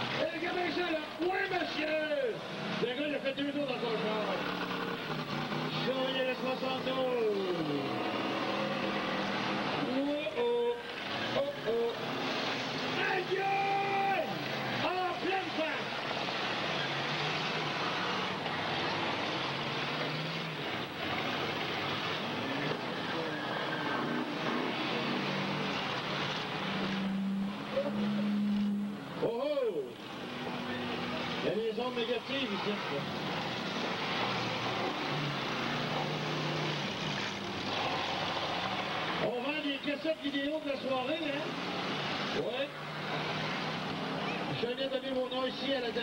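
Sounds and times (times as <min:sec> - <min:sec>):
car engines running: 0:00.0 - 0:46.0.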